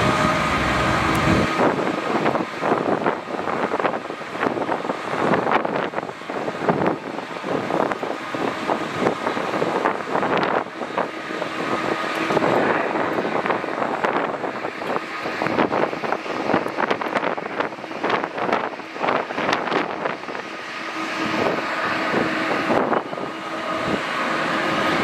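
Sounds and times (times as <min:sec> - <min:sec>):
jet engines running: 0:00.0 - 0:25.0
wind buffeting on microphone: 0:00.0 - 0:25.0.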